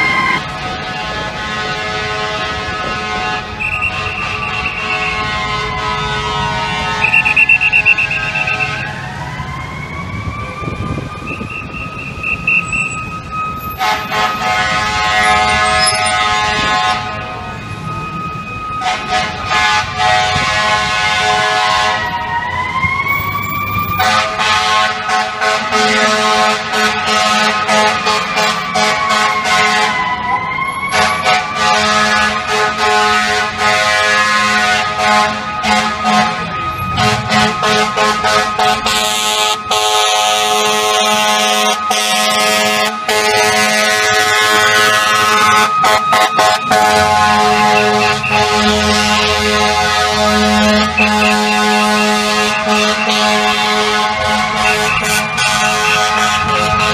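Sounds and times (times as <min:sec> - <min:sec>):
air horn blasts: 0:00.0 - 0:08.8, 0:13.7 - 0:17.4, 0:18.8 - 0:22.1, 0:23.9 - 0:30.1, 0:30.9 - 0:56.9
fire engine siren wailing: 0:00.0 - 0:56.9.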